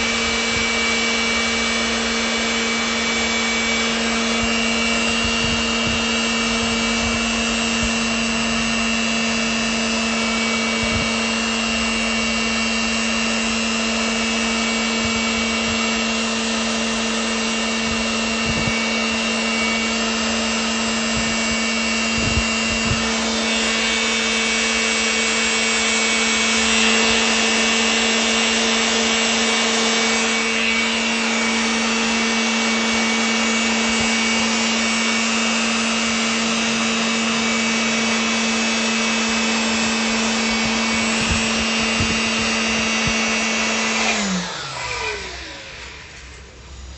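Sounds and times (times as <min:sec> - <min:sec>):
electric motor whining: 0:00.0 - 0:46.9.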